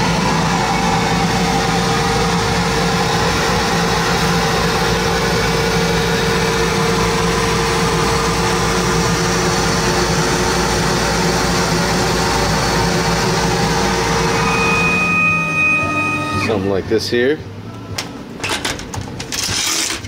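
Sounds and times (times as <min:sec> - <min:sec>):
laser cutter hum and whine: 0:00.0 - 0:18.4.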